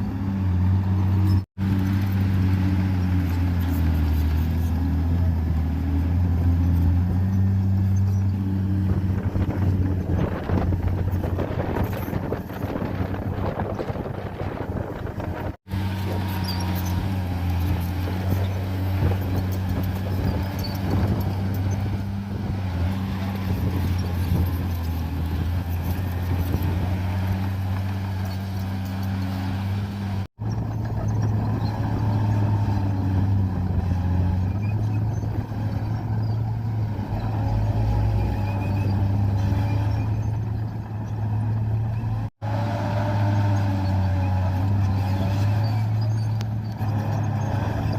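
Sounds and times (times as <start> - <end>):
bulldozer diesel engine drone: 0.0 - 47.9.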